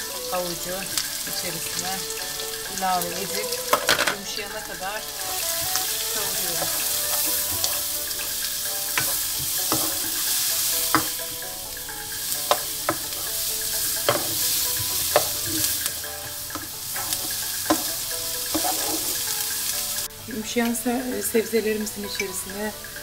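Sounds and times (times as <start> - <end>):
vegetables sizzling in a frying pan: 0.0 - 23.0
wooden spoon knocking a pan: 0.8 - 20.1.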